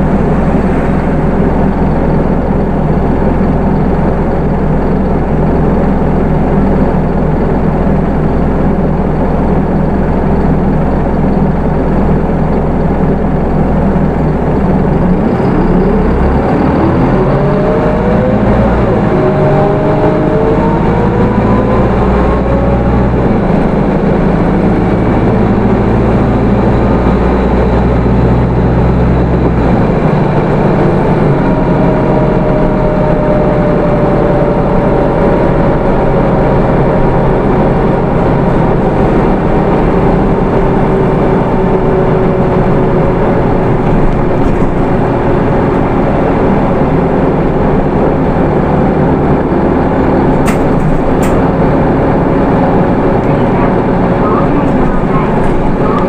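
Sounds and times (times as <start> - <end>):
bus diesel engine rumble: 0.0 - 56.0
drivetrain whine: 0.0 - 56.0
road noise: 0.0 - 56.0.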